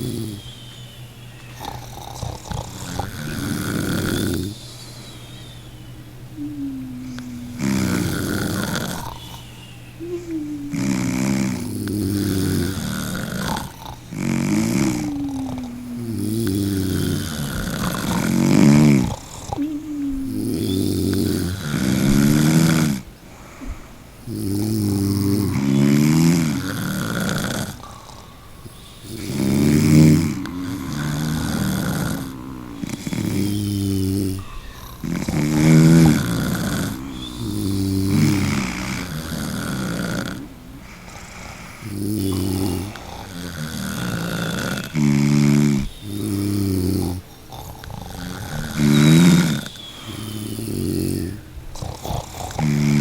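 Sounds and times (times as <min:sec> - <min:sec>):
person snoring loudly: 0:00.0 - 0:00.5, 0:01.6 - 0:04.9, 0:06.4 - 0:23.1, 0:24.2 - 0:53.0.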